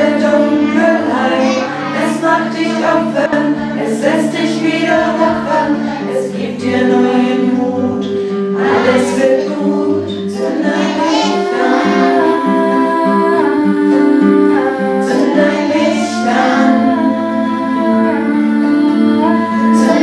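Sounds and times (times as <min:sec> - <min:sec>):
classical guitar: 0:00.0 - 0:20.0
women singing together: 0:00.0 - 0:20.0.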